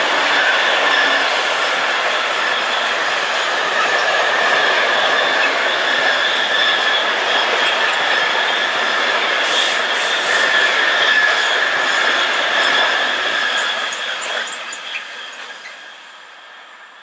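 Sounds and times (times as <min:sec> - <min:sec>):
high squealing whine: 0:00.0 - 0:17.0
train wheels rumbling on rails: 0:00.0 - 0:17.0.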